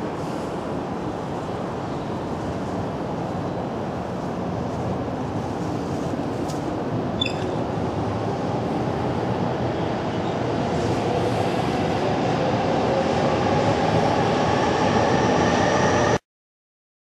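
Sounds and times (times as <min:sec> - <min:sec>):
city street rumble: 0:00.0 - 0:16.2.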